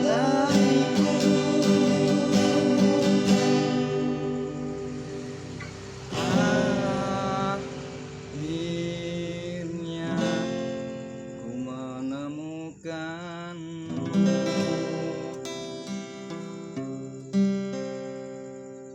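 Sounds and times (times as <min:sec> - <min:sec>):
person singing long notes: 0:00.0 - 0:15.4
acoustic guitar playing: 0:00.0 - 0:18.9.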